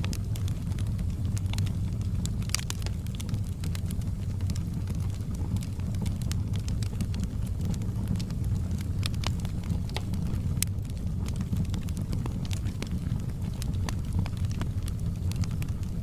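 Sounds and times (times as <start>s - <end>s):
fire pops and snaps: 0.0s - 16.0s
low rumble of burning: 0.0s - 16.0s.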